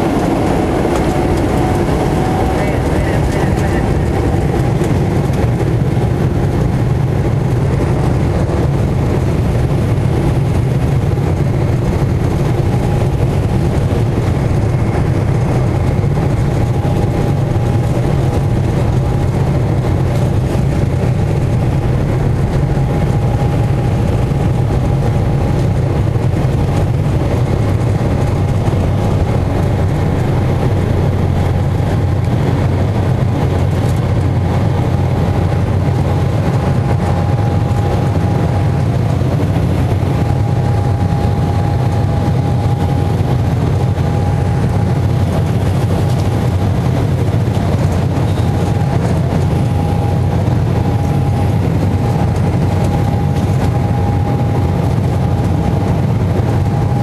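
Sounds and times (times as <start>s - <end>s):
jet engines roaring: 0.0s - 57.0s
wheels rumbling on runway: 0.0s - 57.0s.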